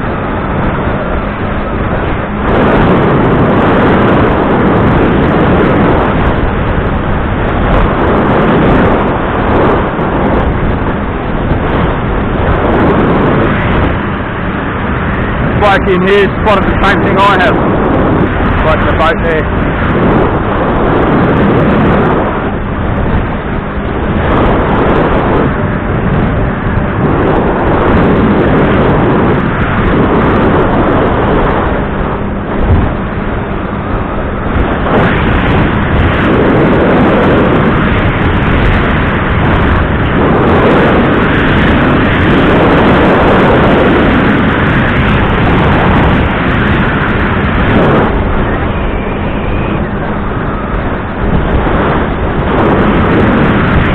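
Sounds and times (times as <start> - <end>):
outboard motor running: 0.0 - 53.9
rush of wind and water: 0.0 - 53.9.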